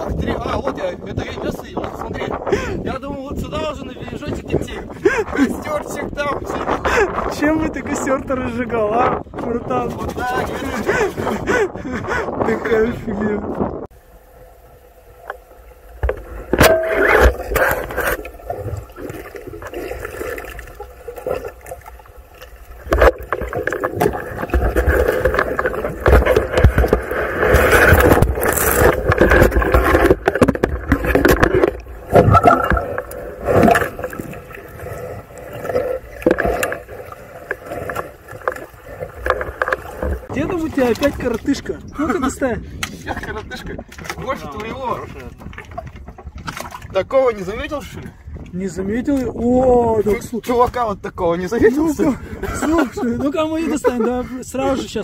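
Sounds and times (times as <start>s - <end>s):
muffled underwater rumble: 0.0s - 48.6s.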